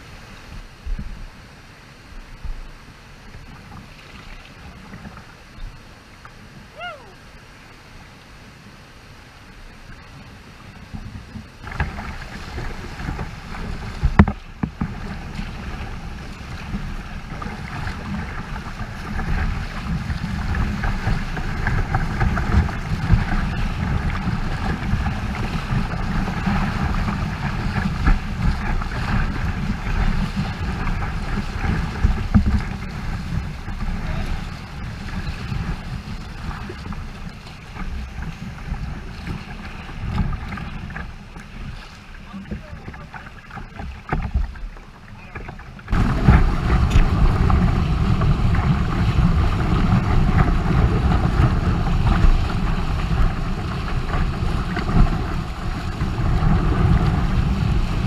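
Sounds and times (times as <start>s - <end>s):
whitewater rushing and splashing: 0.0s - 58.0s
wind buffeting microphone: 9.7s - 58.0s.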